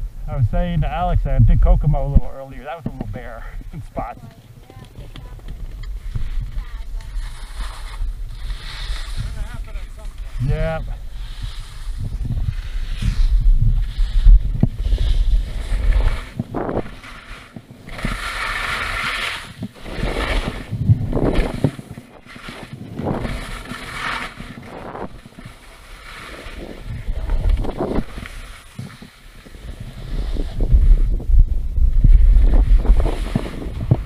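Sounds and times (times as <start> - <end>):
wind buffeting microphone: 0.0 - 25.7, 26.4 - 34.0
skis scraping over snow: 0.3 - 34.0.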